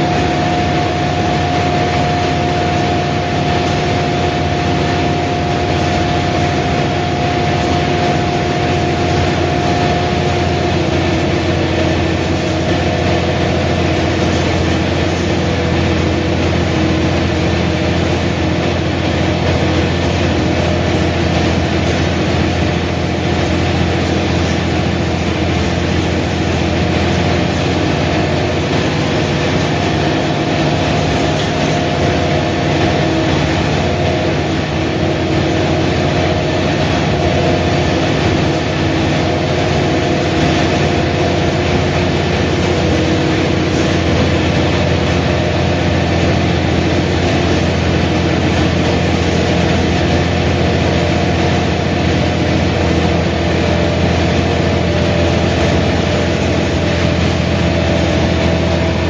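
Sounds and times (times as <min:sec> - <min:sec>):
bus diesel engine humming: 0:00.0 - 0:59.0
rumble of running noise: 0:00.0 - 0:59.0.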